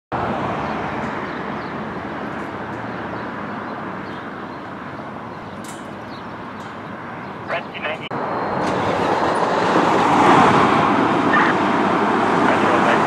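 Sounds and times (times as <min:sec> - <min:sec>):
rushing engine noise: 0:00.1 - 0:13.0.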